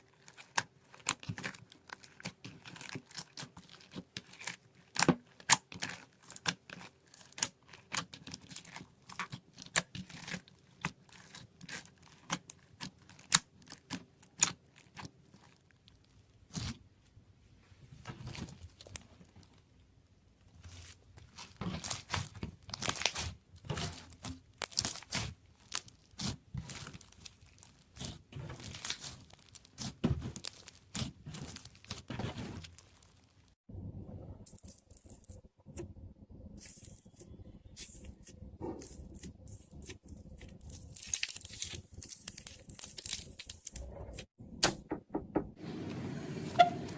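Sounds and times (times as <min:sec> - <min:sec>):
slime crackling and popping: 0:00.0 - 0:16.9, 0:20.4 - 0:33.6, 0:36.6 - 0:44.3.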